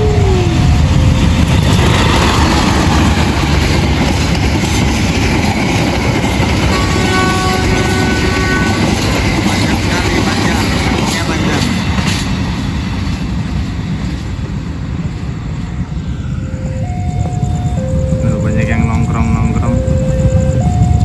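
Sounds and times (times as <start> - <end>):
clickety-clack of coaches on track: 0.0 - 21.0
train wheels rumbling on rails: 0.0 - 21.0.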